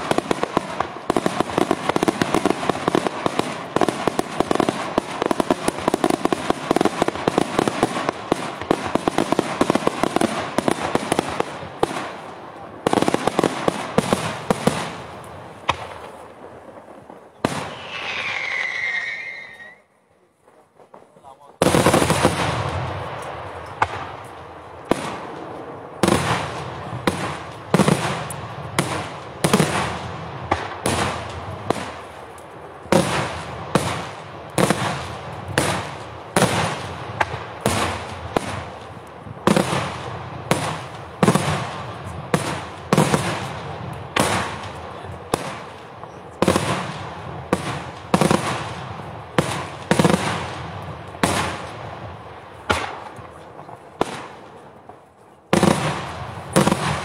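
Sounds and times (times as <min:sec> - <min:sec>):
loud aerial firework bangs: 0:00.0 - 0:18.7, 0:20.6 - 0:57.0.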